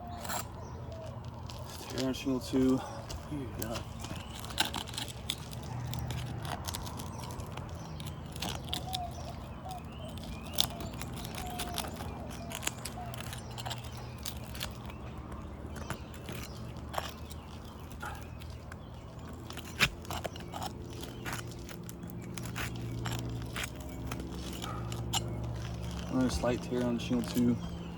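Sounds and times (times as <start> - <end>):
roof shingles crackling and snapping: 0.0 - 2.3, 3.0 - 27.9.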